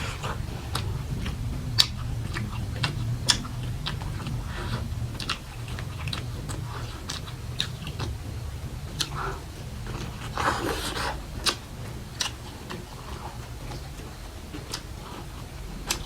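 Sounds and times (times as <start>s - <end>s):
low steady hum: 0.0s - 16.0s
wet mouth chewing clicks: 0.0s - 16.0s.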